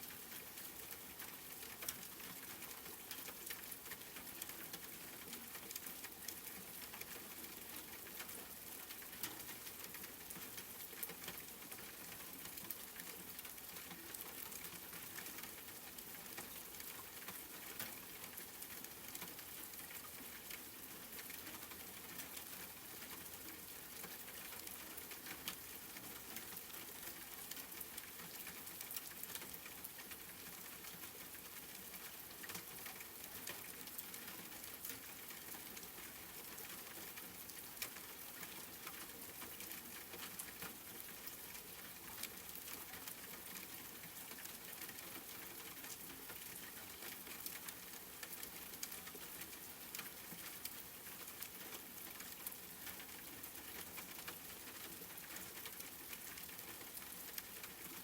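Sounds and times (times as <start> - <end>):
steady rain pattering: 0.0 - 58.0
raindrop ticks: 0.1 - 58.0.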